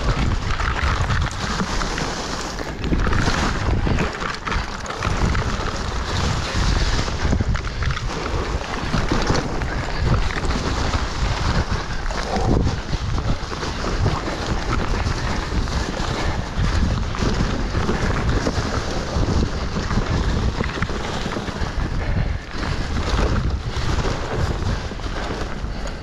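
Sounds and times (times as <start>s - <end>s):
bike clicks and rattles: 0.0s - 26.0s
bike tyre noise: 0.0s - 26.0s
wind rumble on microphone: 0.0s - 26.0s.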